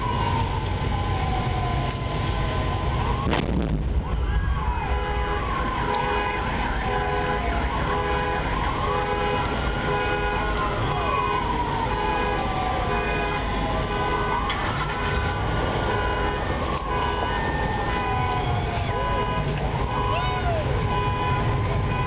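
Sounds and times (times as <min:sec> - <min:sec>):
emergency vehicle siren wailing: 0:00.0 - 0:22.0.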